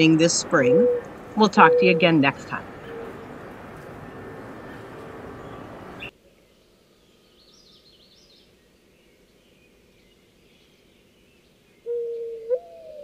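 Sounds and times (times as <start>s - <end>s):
rush of outdoor noise: 0.0s - 13.0s.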